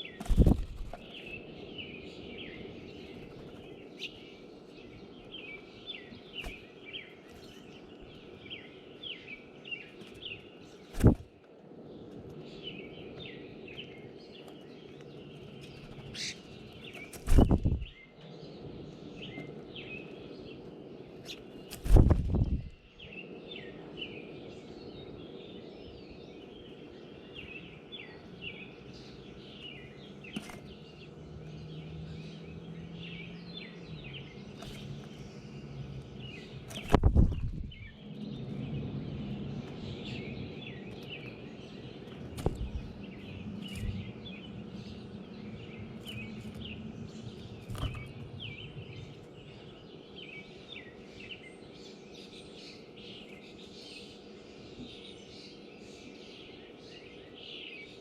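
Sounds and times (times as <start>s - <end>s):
low background rumble: 0.0s - 56.9s
songbirds chirping: 0.0s - 58.0s.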